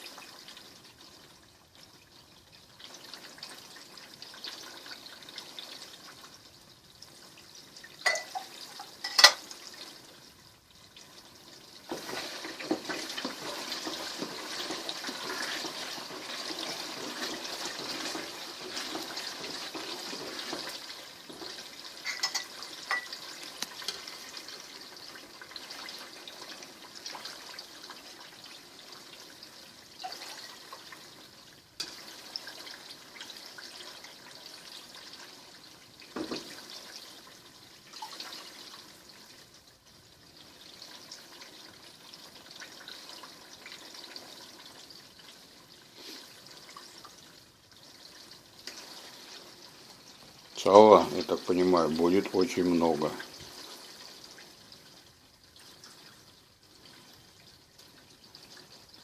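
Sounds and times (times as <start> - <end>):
liquid pouring: 0.0 - 59.0.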